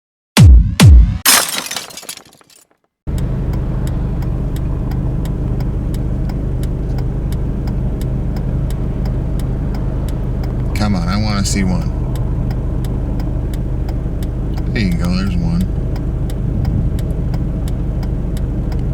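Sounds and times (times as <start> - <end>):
car engine idle hum: 3.1 - 18.9
light regular ticking: 3.1 - 18.9.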